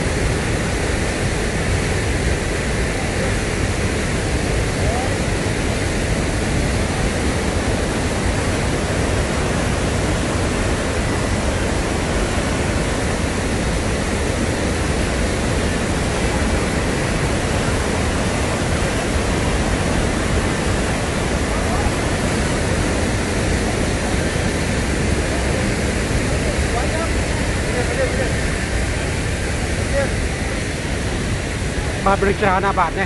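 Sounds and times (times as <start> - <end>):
roar of waterfall and rapids: 0.0 - 33.0.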